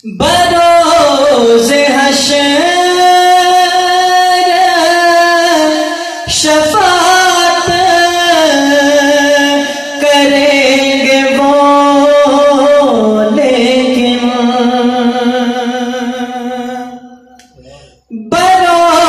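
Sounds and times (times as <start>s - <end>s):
man singing through microphones: 0.0s - 19.0s.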